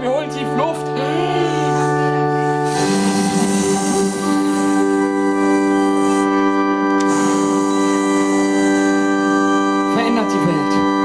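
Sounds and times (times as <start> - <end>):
electric keyboard organ chords: 0.0 - 11.0.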